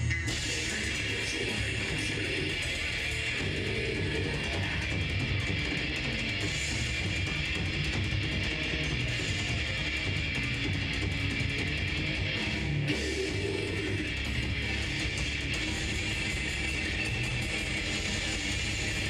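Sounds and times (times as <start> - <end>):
death metal band playing live: 0.0 - 19.0.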